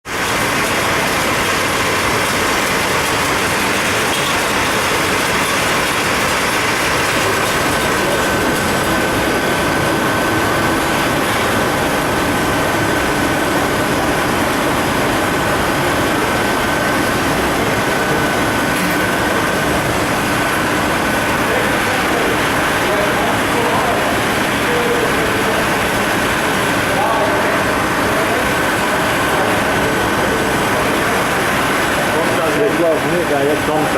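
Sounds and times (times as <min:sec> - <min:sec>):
labelling machine running: 0:00.0 - 0:33.9.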